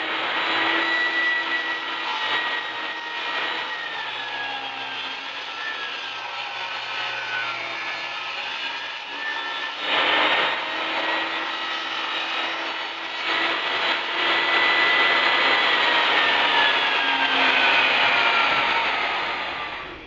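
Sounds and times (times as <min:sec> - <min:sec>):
faint motor whine: 0:00.0 - 0:20.0
power tool rasping on wood: 0:00.0 - 0:20.0.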